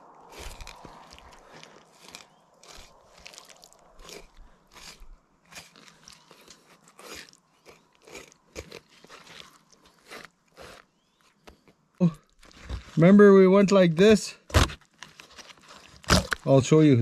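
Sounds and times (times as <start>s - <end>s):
knife crunching through fish bones: 0.2s - 11.6s, 12.3s - 13.0s, 14.5s - 16.5s.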